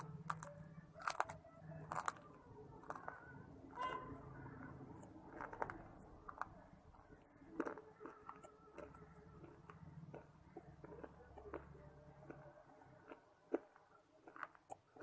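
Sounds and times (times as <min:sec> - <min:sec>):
person chewing crunchy pieces: 0:00.0 - 0:03.8, 0:05.0 - 0:06.6, 0:07.2 - 0:15.0.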